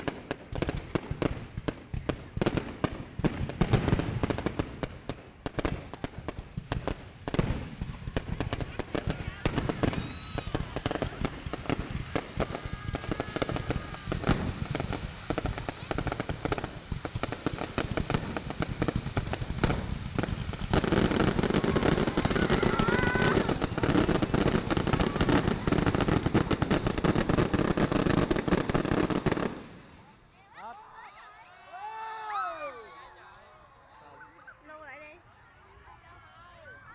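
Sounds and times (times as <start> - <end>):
fireworks popping and cracking: 0.0 - 30.2.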